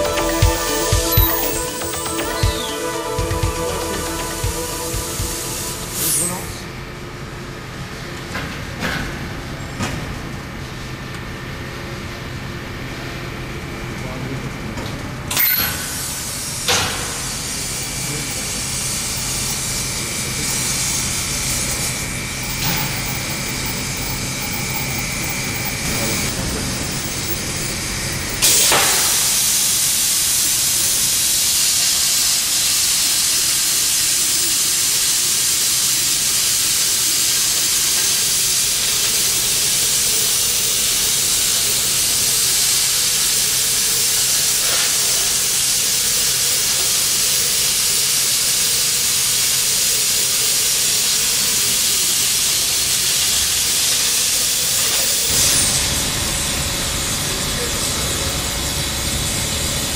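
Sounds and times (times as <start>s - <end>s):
cutting torch hissing: 0.0s - 6.7s, 15.3s - 59.9s.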